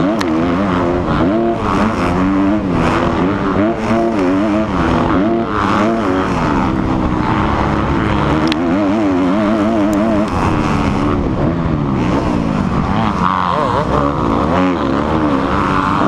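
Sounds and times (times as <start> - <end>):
dirt bike engine revving: 0.0 - 16.0
wind noise on microphone: 0.0 - 16.0.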